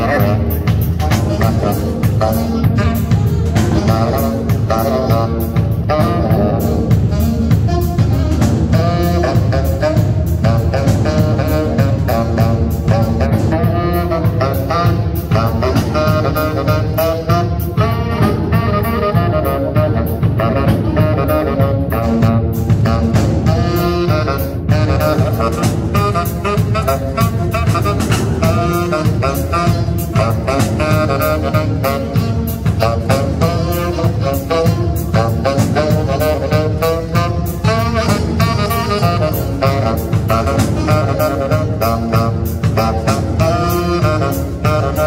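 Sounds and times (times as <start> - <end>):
bass: 0.0 - 45.0
drum kit beat: 0.0 - 45.0
saxophones playing melody: 0.0 - 45.0.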